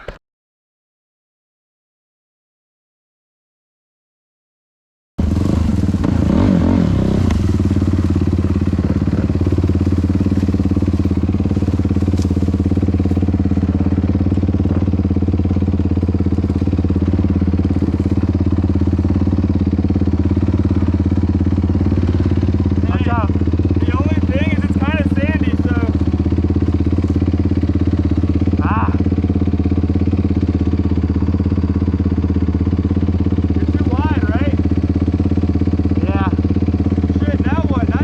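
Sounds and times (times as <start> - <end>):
motorcycle engine idling: 5.2 - 38.0.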